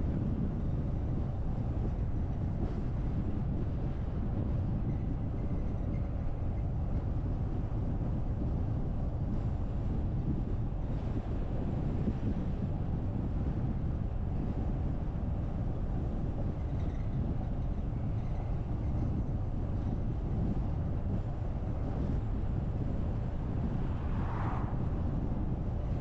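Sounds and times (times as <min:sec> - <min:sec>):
car driving road and wind noise: 0:00.0 - 0:26.0.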